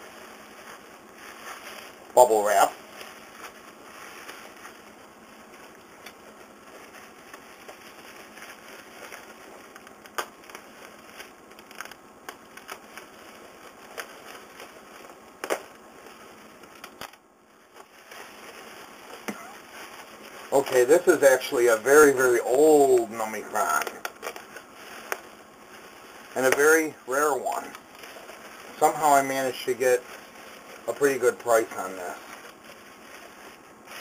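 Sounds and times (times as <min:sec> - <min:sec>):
bubble wrap rustling and crinkling: 0:00.0 - 0:34.0
bubble wrap snaps: 0:00.0 - 0:34.0.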